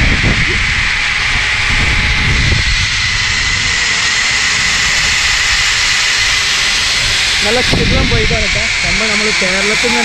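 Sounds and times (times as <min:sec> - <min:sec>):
wind rushing on microphone: 0:00.0 - 0:10.0
zip-line pulleys whining on cable: 0:00.0 - 0:10.0.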